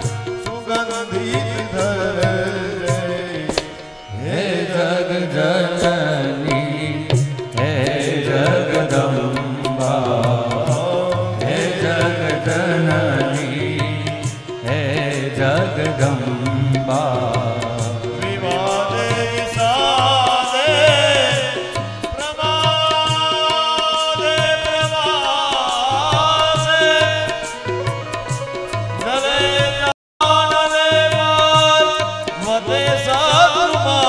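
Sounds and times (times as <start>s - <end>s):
tabla strokes: 0.0s - 4.7s, 5.7s - 34.0s
keyboard instrument: 0.0s - 34.0s
man singing: 0.0s - 34.0s.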